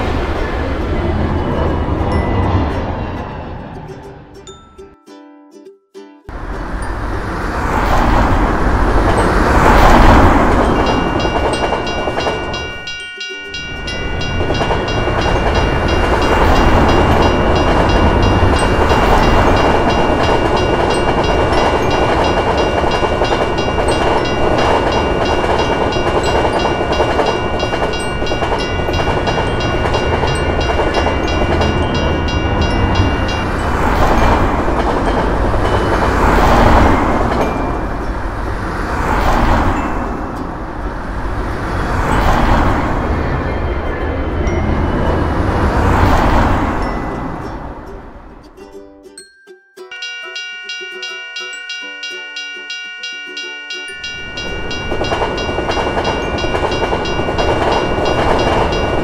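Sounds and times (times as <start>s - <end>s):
crossing bell ringing: 0.0s - 5.3s, 6.3s - 59.0s
train wheels clacking on rails: 6.4s - 48.2s, 53.3s - 59.0s.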